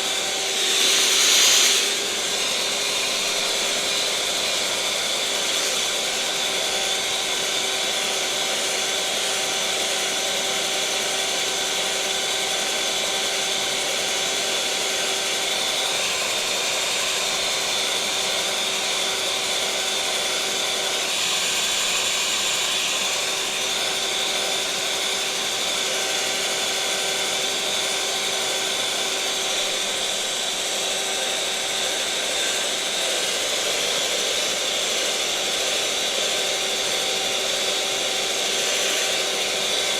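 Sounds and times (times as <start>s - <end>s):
electric mixer motor whirring: 0.0s - 39.9s.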